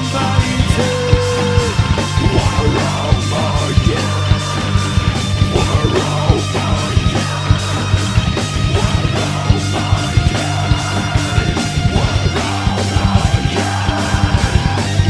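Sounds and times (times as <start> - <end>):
bass guitar: 0.0 - 15.0
distorted electric guitars: 0.0 - 15.0
fast drum hits: 0.0 - 15.0.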